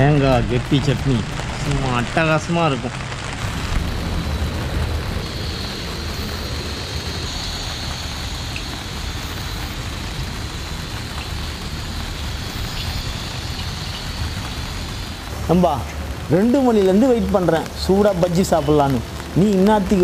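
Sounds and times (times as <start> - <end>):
low rumble: 0.0 - 17.2
steady rain hiss: 0.0 - 20.0.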